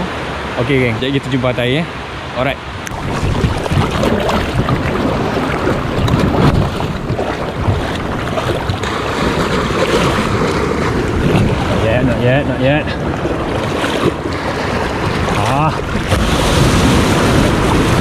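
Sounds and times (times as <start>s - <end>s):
waves sloshing around kayak: 1.9s - 18.0s
wind buffeting microphone: 2.8s - 18.0s.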